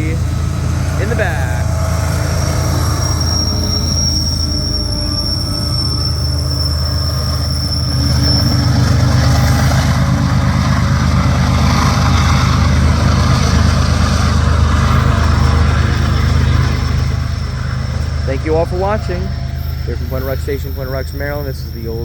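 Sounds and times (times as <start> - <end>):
diesel locomotive droning: 0.0 - 22.0
high wheel squeal: 0.0 - 22.0.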